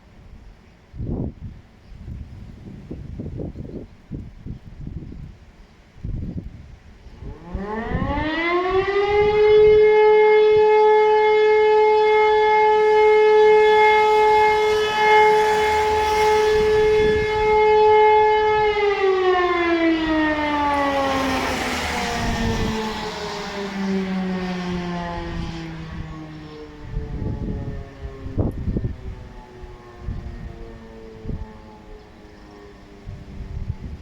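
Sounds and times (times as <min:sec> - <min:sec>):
civil defence siren: 0:06.1 - 0:34.0.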